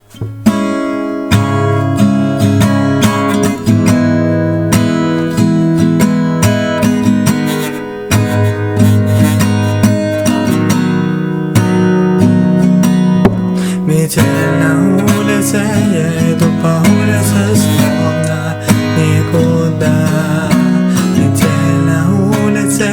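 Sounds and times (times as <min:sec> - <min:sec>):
strummed acoustic guitar: 0:00.0 - 0:22.9.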